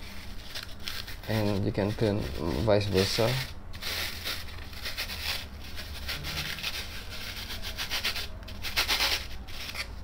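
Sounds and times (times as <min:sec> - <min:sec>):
sandpaper rubbing foam: 0:00.0 - 0:10.0.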